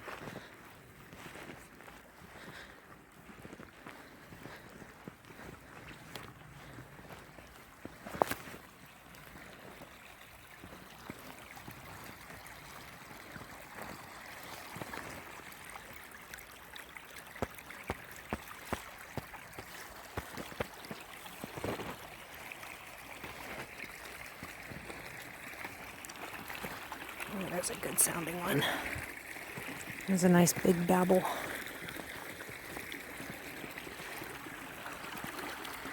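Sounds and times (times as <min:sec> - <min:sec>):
creek babbling over rocks: 0:00.0 - 0:35.9.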